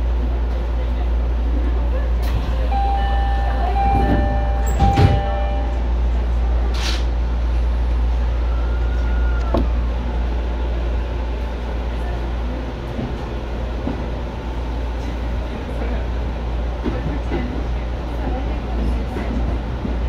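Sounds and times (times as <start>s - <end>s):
electric train hum: 0.0s - 20.0s.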